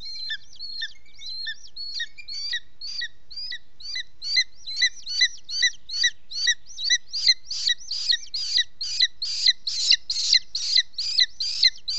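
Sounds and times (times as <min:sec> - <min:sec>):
eagle high piping calls: 0:00.0 - 0:11.9.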